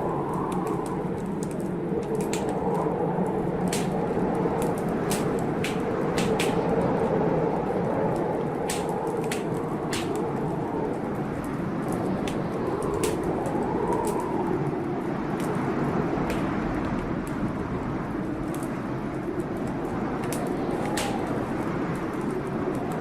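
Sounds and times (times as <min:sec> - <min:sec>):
rain: 0:00.0 - 0:23.0
wood fire crackling: 0:00.0 - 0:23.0.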